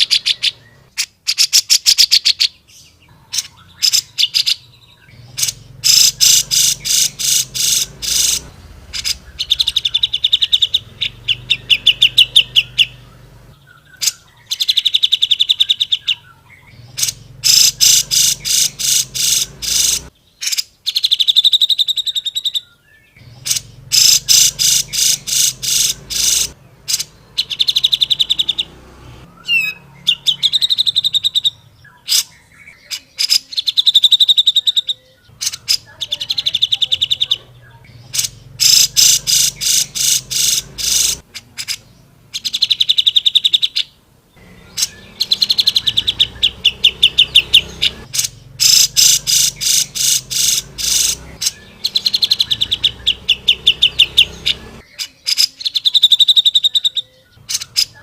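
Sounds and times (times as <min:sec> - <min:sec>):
bulbul chattering song: 0:00.0 - 0:58.0.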